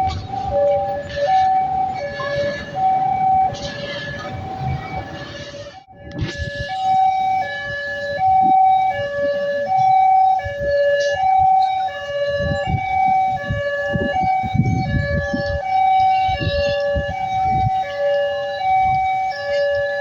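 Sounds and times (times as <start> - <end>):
two-tone warning siren: 0.0 - 20.0.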